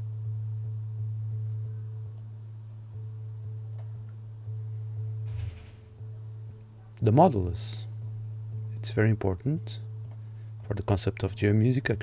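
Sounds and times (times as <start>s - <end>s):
low synthesized sine tone: 0.0s - 12.0s.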